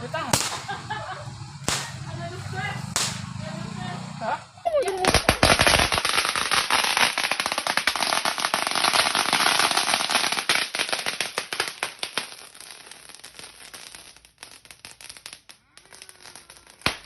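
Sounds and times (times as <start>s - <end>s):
firecrackers popping: 0.0s - 3.7s, 4.6s - 17.0s.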